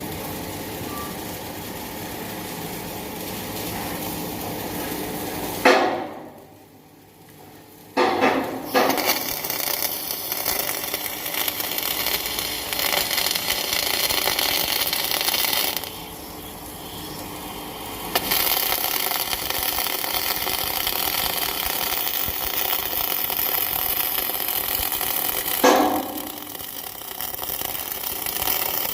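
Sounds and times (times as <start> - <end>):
electric arc welding crackle: 0.0 - 28.9.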